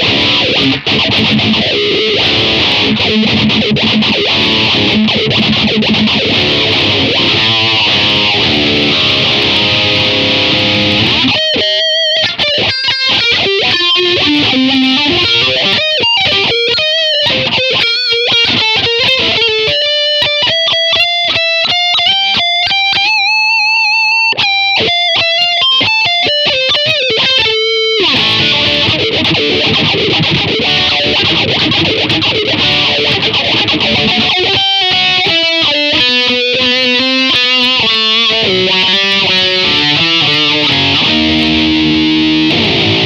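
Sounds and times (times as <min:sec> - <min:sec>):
distorted electric guitar: 0:00.0 - 0:43.0.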